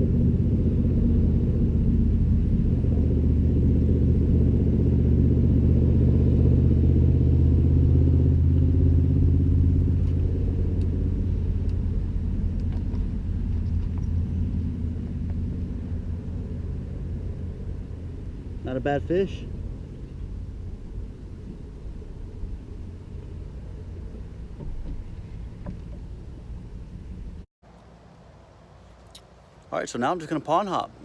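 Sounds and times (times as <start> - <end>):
low engine rumble: 0.0 - 31.0.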